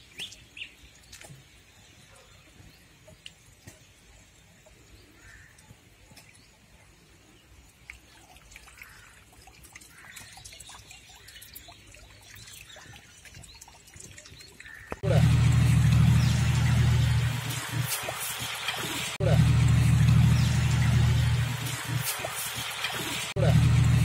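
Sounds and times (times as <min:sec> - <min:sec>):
birds chirping: 0:00.0 - 0:24.0
water trickling: 0:02.8 - 0:24.0.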